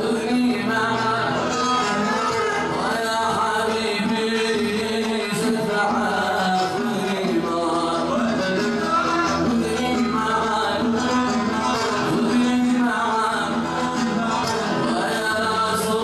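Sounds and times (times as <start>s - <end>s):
man singing: 0.0s - 16.0s
plucked-string music: 0.0s - 16.0s.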